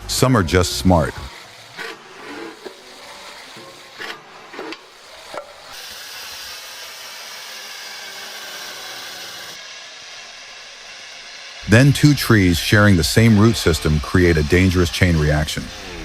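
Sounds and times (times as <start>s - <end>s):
rasping scraping hiss: 0.0s - 16.0s.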